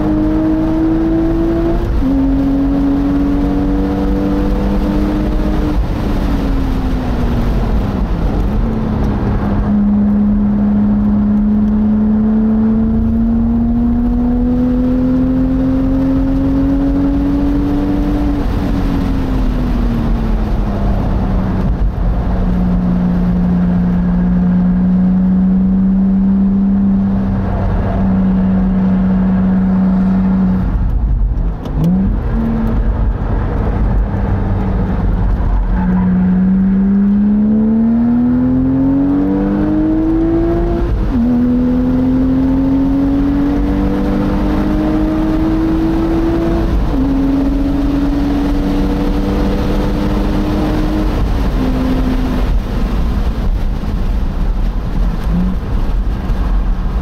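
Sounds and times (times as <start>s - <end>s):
sports car engine revving: 0.0s - 57.0s
wind rush: 0.0s - 57.0s.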